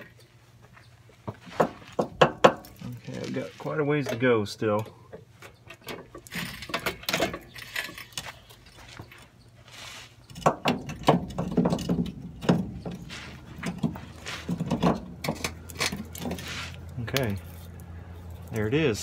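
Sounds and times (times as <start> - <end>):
metal and rubber clunking: 0.8 - 9.4, 10.2 - 17.5.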